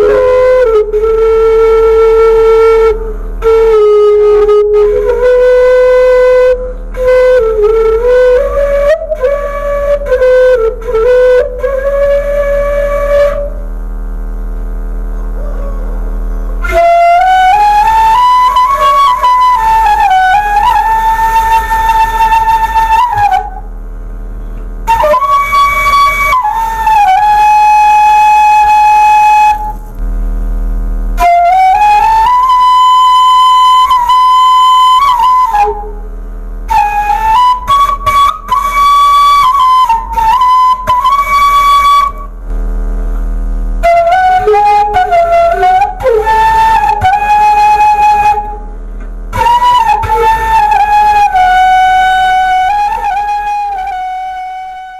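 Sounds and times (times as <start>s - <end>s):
bamboo flute playing: 0.0s - 13.7s, 15.2s - 23.8s, 24.4s - 30.1s, 31.2s - 42.5s, 43.8s - 54.9s
steady low hum: 0.0s - 54.9s.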